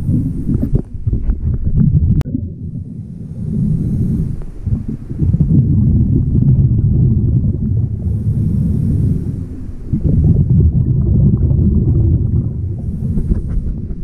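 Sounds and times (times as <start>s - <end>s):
diver breathing through regulator: 0.0s - 0.8s, 3.0s - 14.0s.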